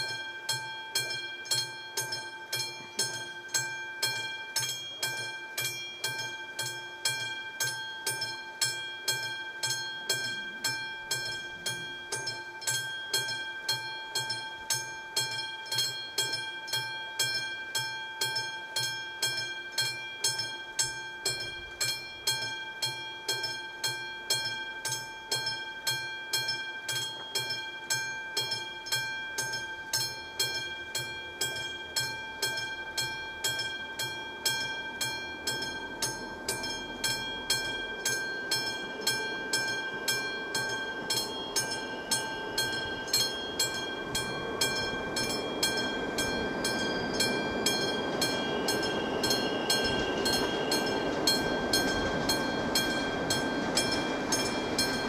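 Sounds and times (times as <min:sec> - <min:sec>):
level crossing bell ringing: 0:00.0 - 0:55.0.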